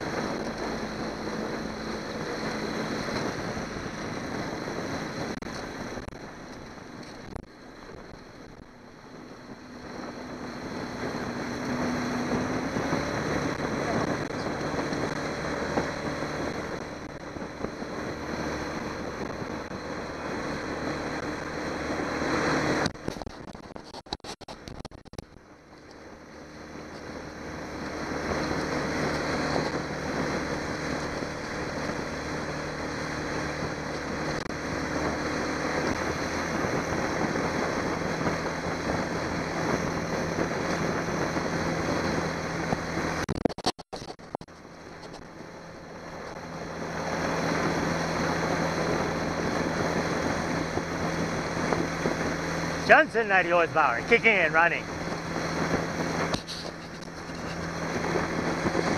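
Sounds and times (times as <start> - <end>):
wind on microphone: 0.0 - 43.3, 44.2 - 58.9
water rushing past hull: 0.0 - 43.4, 44.0 - 58.9
outboard motor running: 0.0 - 58.9.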